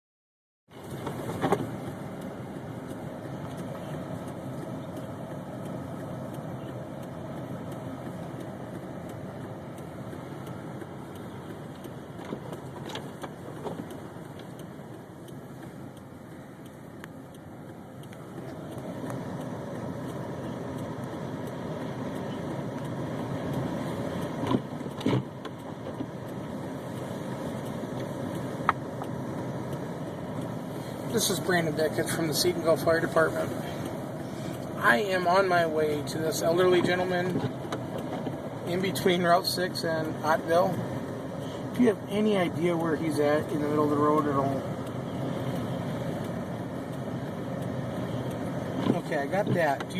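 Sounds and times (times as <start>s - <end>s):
vehicle engine and road noise: 0.7s - 49.9s.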